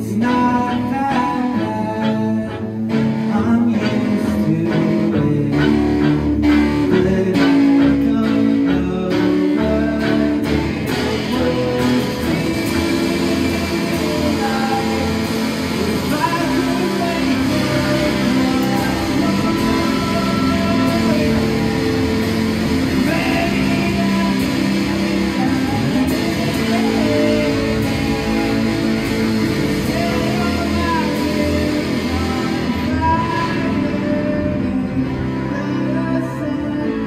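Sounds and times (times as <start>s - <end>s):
electric guitar: 0.0s - 37.0s
pop-punk band playing live: 0.0s - 37.0s.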